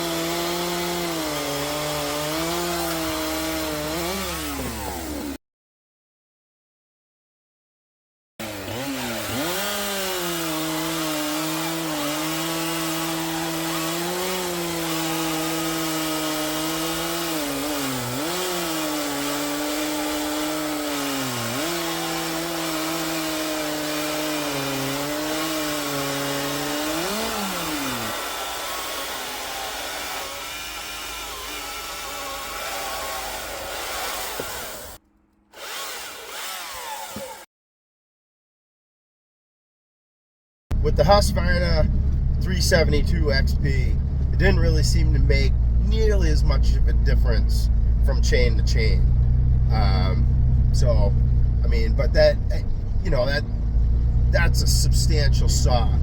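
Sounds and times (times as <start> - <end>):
chainsaw cutting log: 0.0 - 5.4, 8.4 - 37.5, 40.8 - 56.0.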